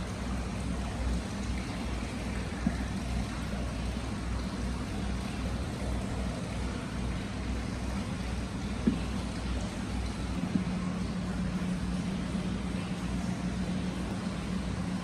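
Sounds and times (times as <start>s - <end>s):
water running into a bath: 0.0s - 15.0s.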